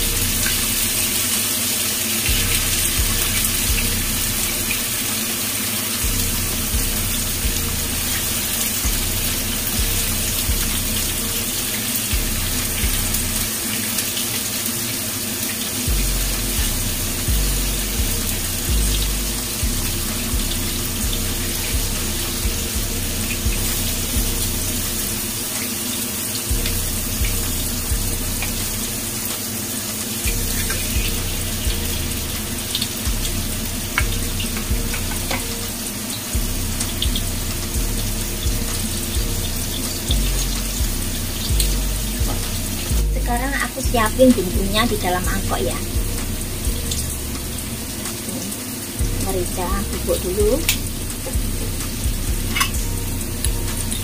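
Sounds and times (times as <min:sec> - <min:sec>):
tofu sizzling in hot oil: 0:00.1 - 0:54.0.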